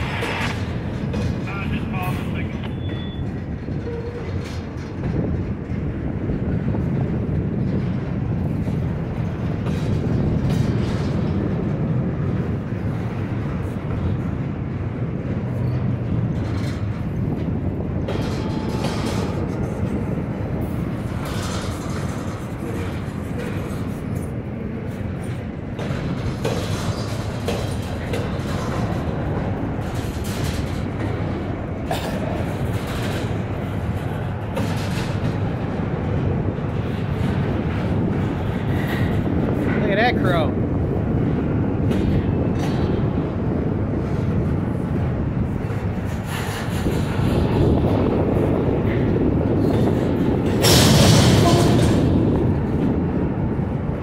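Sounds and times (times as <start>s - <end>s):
freight cars clanking and rattling: 0.0s - 54.0s
steel wheels rumbling on rails: 0.0s - 54.0s.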